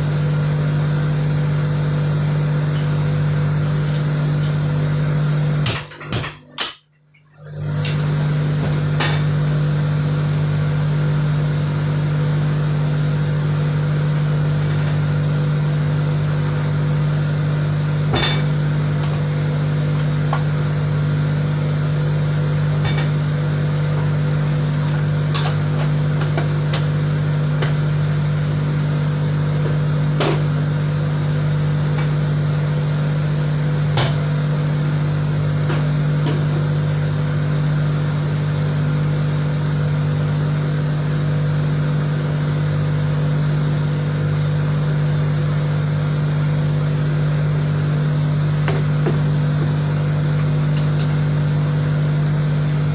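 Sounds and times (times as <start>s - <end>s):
loud machinery hum: 0.0s - 6.8s, 7.4s - 52.9s.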